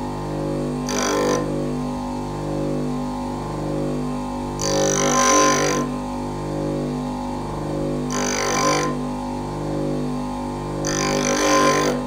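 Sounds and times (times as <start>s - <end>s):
bench grinder humming: 0.0s - 12.0s
hissing grind of drill bit: 0.0s - 12.0s.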